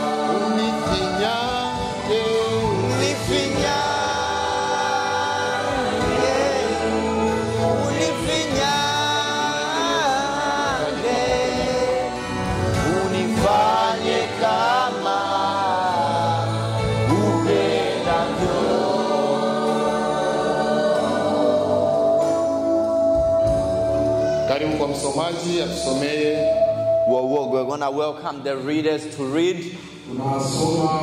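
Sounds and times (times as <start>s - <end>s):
voices singing gospel: 0.0s - 28.0s
bass accompaniment: 0.0s - 29.3s.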